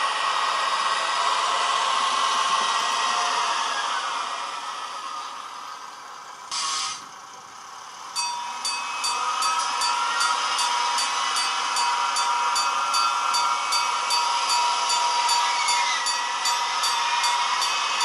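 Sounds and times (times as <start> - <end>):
model train whine and hiss: 0.0 - 18.0.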